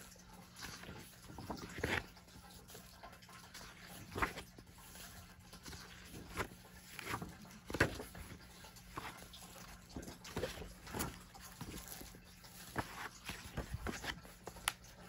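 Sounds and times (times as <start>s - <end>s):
book pages turning: 0.5s - 2.8s, 3.5s - 15.0s.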